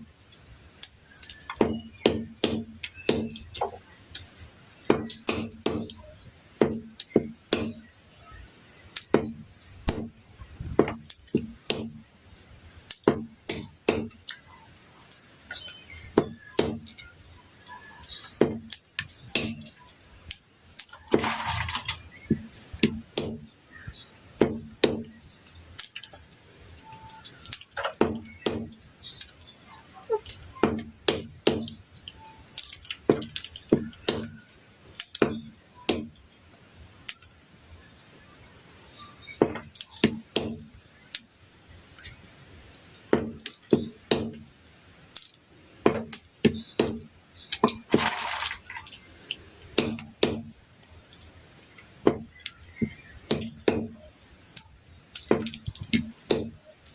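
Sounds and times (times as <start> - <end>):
blade chopping olives: 0.8 - 14.6, 15.2 - 17.1, 18.0 - 26.2, 27.2 - 29.5, 30.3 - 36.2, 39.3 - 41.2, 43.0 - 44.5, 45.1 - 50.6, 52.0 - 56.9.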